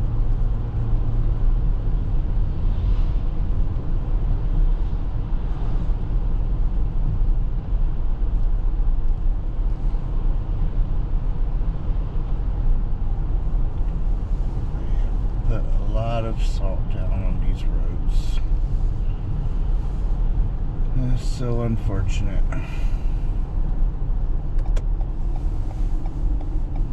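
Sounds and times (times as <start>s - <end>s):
tyre and road noise in car cabin: 0.0s - 26.9s.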